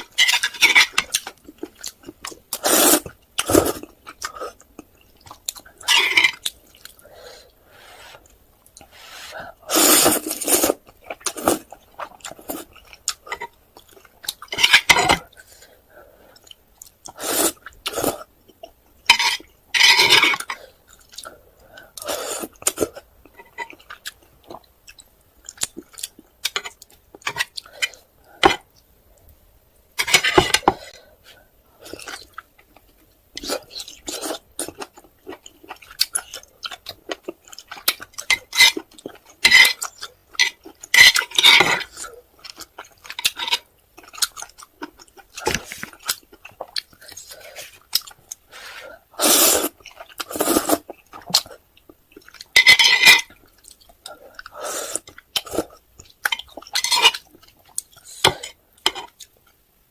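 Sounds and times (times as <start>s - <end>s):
person chewing noodles: 0.0s - 14.5s, 19.4s - 28.9s, 30.6s - 52.6s, 53.3s - 59.4s.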